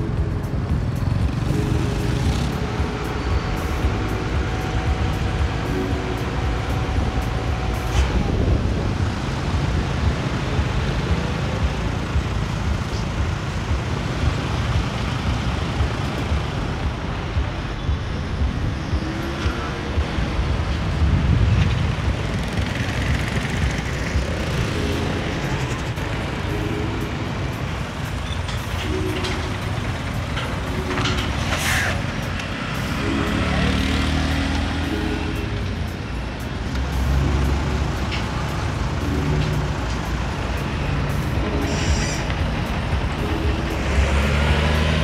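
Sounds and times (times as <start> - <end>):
street traffic engine rumble: 0.0 - 45.0.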